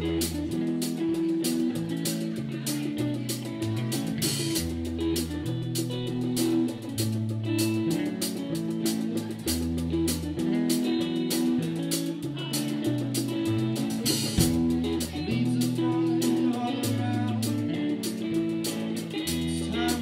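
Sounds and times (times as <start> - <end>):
bass guitar long notes: 0.0 - 20.0
drum kit steady beat: 0.0 - 20.0
electric guitars: 0.0 - 20.0.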